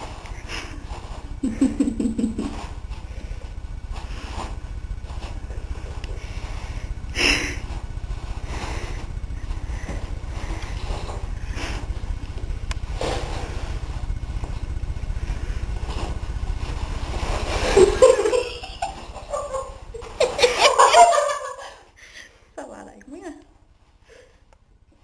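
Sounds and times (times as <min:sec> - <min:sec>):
steady low rumble: 0:00.0 - 0:20.8.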